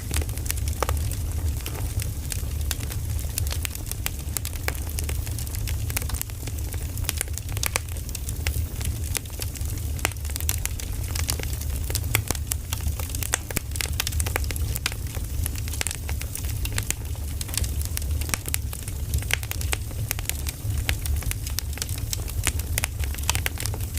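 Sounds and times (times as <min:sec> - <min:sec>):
firewood crackling and popping: 0:00.0 - 0:23.9
low steady rumble: 0:00.0 - 0:23.9.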